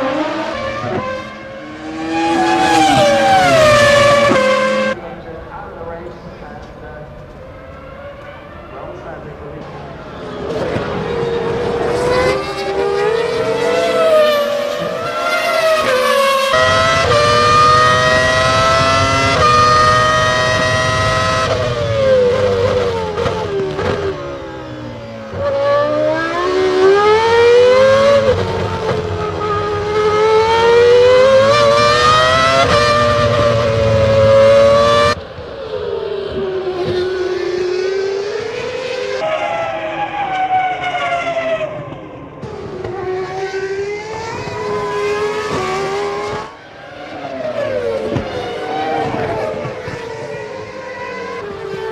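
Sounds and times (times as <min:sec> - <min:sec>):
racing car engines at high revs: 0:00.0 - 0:51.9.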